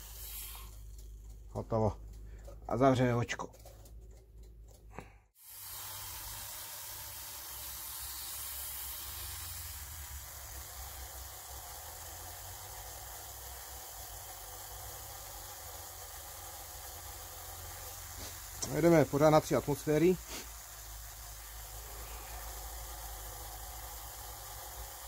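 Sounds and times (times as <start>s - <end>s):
compressed air hissing: 0.0s - 1.1s, 5.4s - 25.0s.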